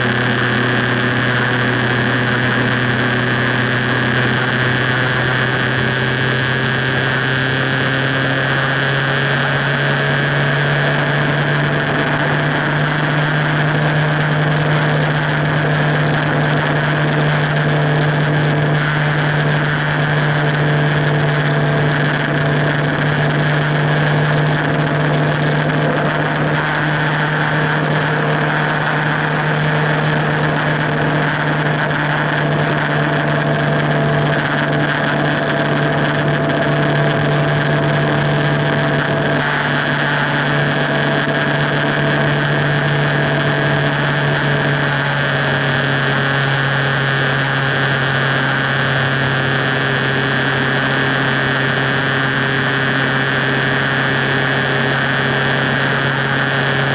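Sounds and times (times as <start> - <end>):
motorcycle engine cruising: 0.0 - 56.9
wind and road noise: 0.0 - 56.9.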